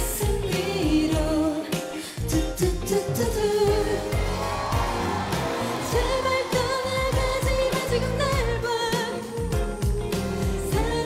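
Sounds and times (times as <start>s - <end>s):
person singing: 0.0s - 11.0s
pop backing track with bass: 0.0s - 11.0s.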